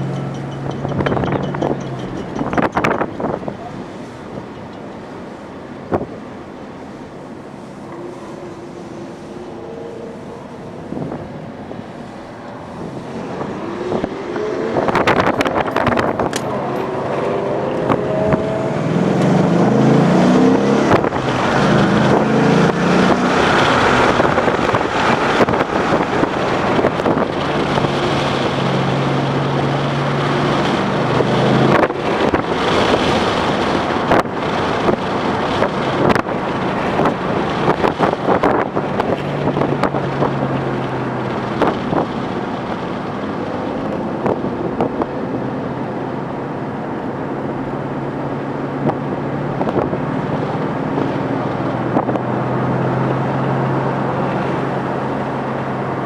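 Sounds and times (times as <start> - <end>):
car engine accelerating hard: 0.0 - 56.0
loud rushing noise: 0.0 - 56.0.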